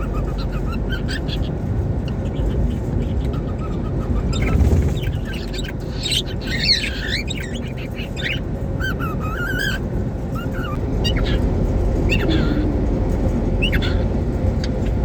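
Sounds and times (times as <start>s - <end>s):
cockatiel chirping and whistling: 0.0s - 11.4s, 12.1s - 12.7s, 13.6s - 14.0s
steady low rumble: 0.0s - 15.0s.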